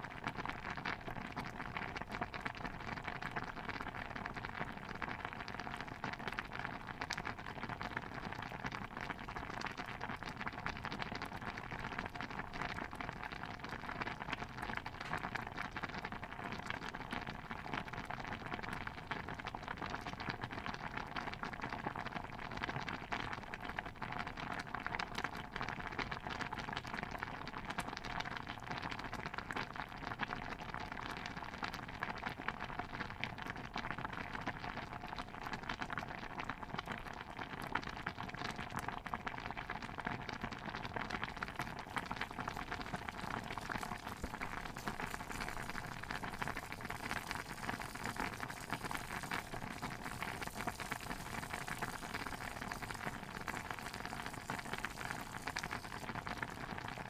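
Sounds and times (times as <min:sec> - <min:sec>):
dense patter of pops and crackles: 0:00.0 - 0:57.0.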